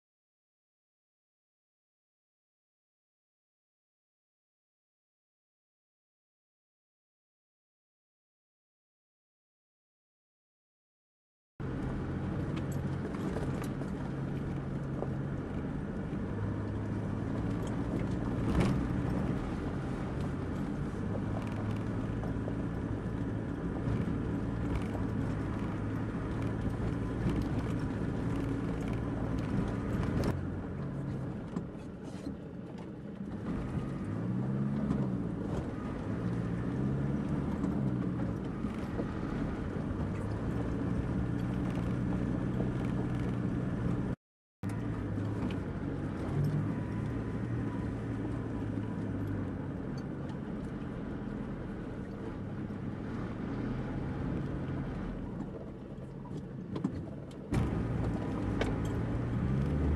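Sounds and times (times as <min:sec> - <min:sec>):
vehicle engine running: 0:11.6 - 0:59.9.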